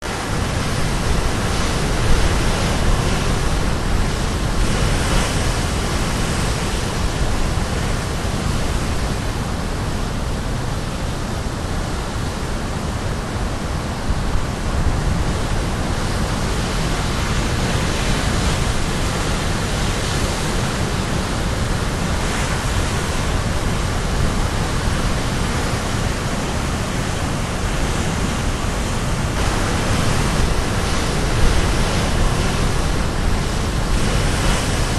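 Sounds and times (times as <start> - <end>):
surf waves crashing: 0.0 - 34.9.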